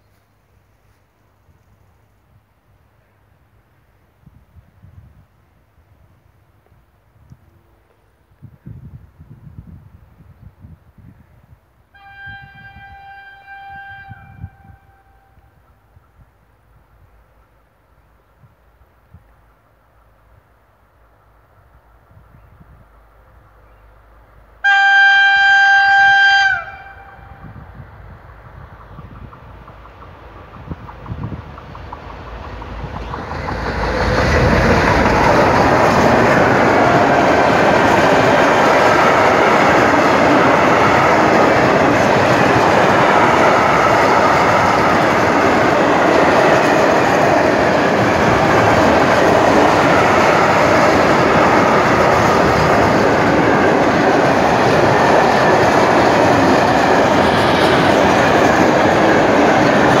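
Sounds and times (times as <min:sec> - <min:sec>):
freight train wheels on rails: 0:00.0 - 1:00.0
electric locomotive passing: 0:11.4 - 1:00.0.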